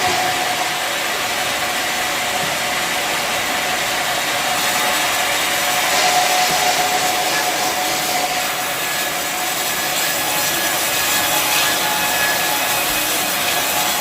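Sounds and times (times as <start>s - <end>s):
bandsaw blade cutting log: 0.0s - 14.0s.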